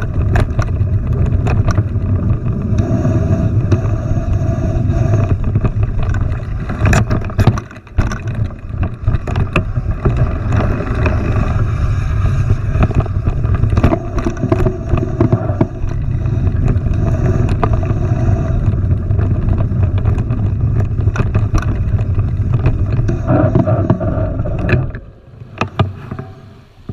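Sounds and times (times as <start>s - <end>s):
tyre rumble: 0.0s - 26.9s
wind on microphone: 0.0s - 26.9s.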